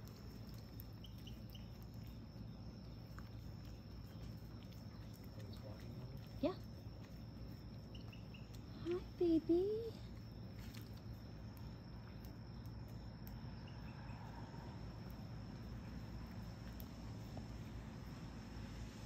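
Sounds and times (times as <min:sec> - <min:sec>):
crickets trilling: 0:00.0 - 0:19.0
low steady hum: 0:00.0 - 0:19.0.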